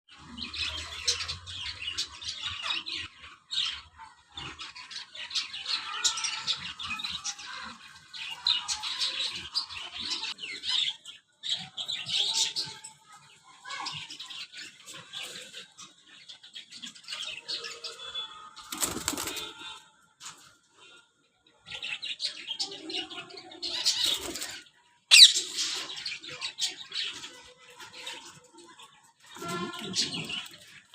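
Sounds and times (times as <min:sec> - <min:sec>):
birds chirping and squawking: 0:00.1 - 0:30.9.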